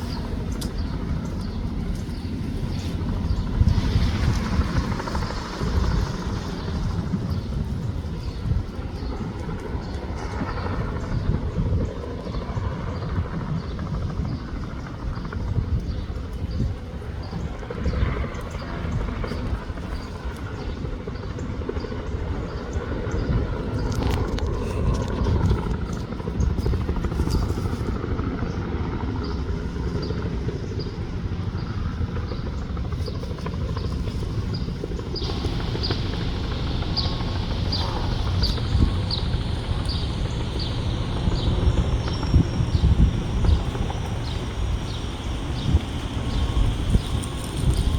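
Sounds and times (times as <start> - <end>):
helicopter rotor and turbine rumble: 0.0 - 47.9.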